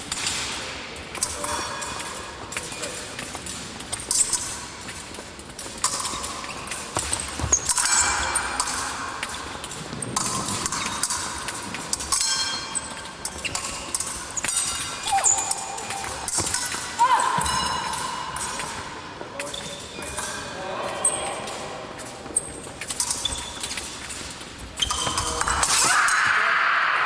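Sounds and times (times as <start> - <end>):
fencing blades clashing: 0.0 - 26.6.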